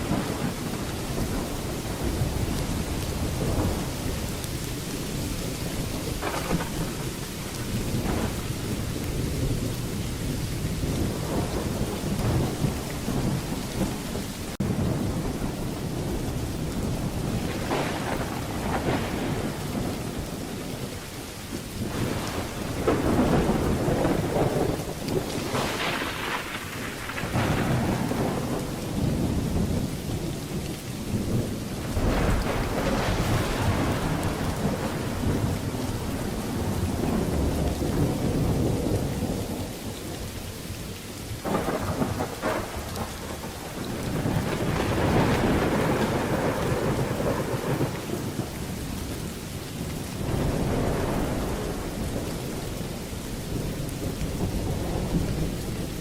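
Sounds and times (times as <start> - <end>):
heavy rain: 0.0 - 56.0
thunder crackles: 0.0 - 56.0
thunder rumbling: 0.0 - 56.0.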